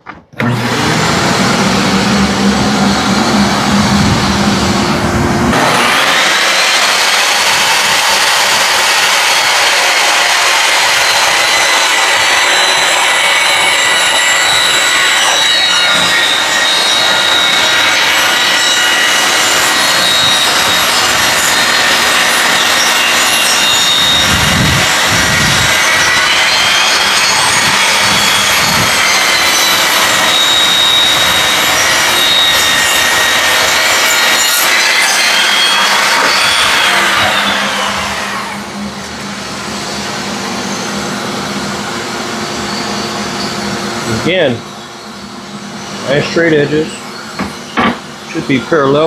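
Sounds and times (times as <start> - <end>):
table saw ripping wood: 0.0 - 44.6.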